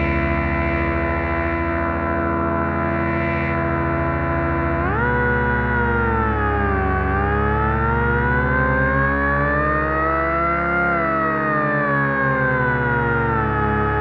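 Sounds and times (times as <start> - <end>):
low synthesizer bass note: 0.0 - 14.0
synthesizer siren-like glide: 0.0 - 14.0.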